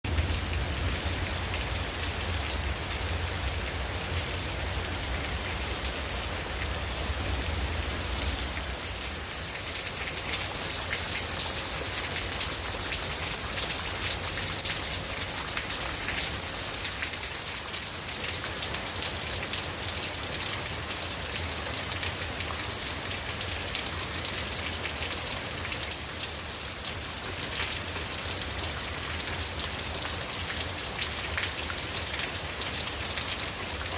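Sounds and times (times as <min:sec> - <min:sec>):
rain pattering on surfaces: 0:00.1 - 0:33.9.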